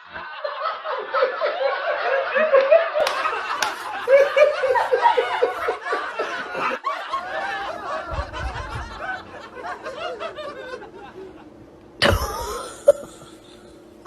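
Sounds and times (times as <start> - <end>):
people giggling: 0.0 - 14.0.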